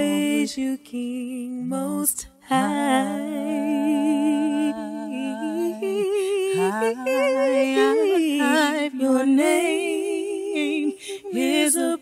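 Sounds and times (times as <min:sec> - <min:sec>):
vocal group singing in harmony: 0:00.0 - 0:12.0.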